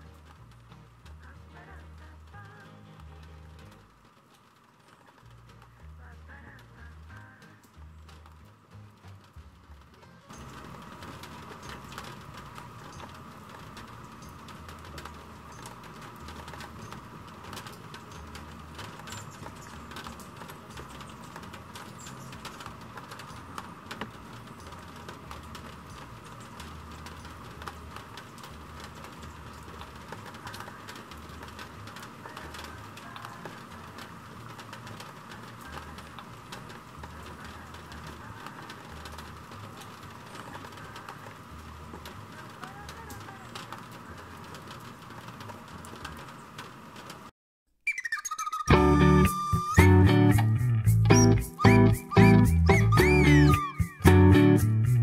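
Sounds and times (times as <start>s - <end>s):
rain on foliage: 0.0s - 47.3s, 48.7s - 55.0s.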